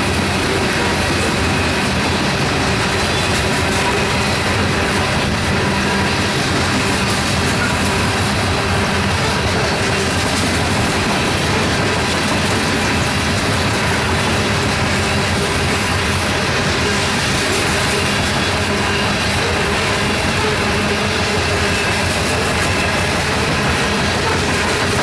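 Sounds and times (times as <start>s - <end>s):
freight train cars rolling: 0.0s - 25.0s
steel wheels running over rails: 0.0s - 25.0s.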